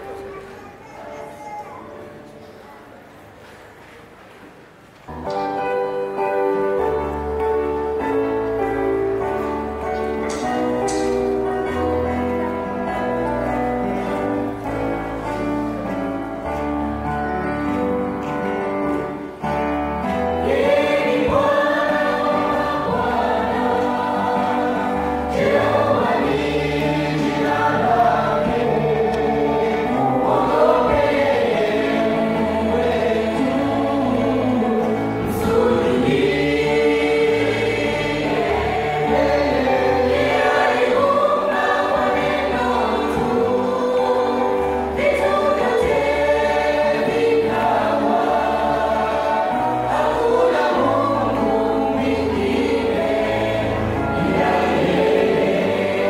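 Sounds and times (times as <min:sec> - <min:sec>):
instrumental accompaniment: 0:05.0 - 0:56.0
choir singing: 0:05.8 - 0:56.0.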